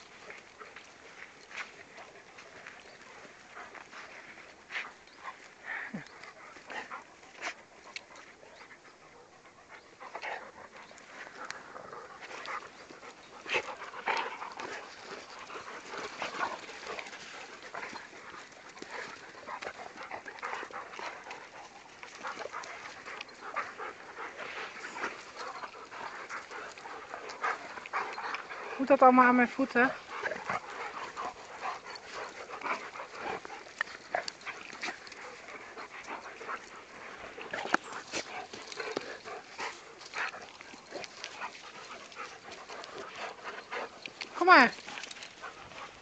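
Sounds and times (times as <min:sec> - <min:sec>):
dogs jostling: 0:00.0 - 0:46.0
dogs panting: 0:00.0 - 0:46.0.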